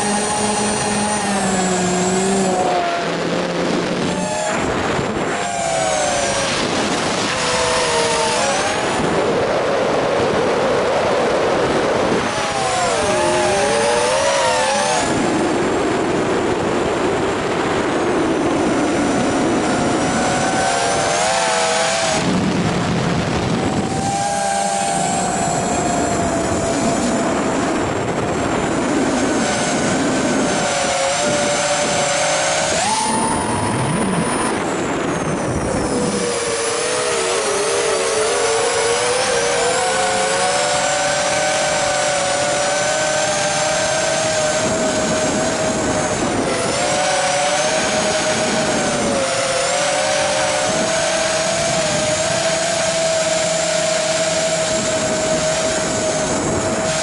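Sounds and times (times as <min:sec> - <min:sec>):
electric motor and propeller whining: 0:00.0 - 0:57.0
wind rushing: 0:00.0 - 0:57.0.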